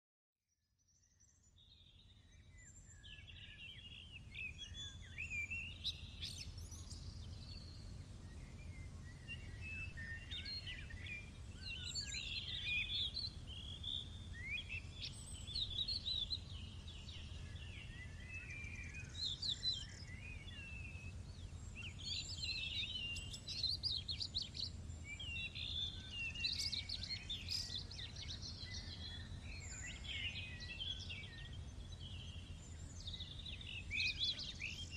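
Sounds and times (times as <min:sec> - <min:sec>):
small birds singing: 0:00.8 - 0:34.9.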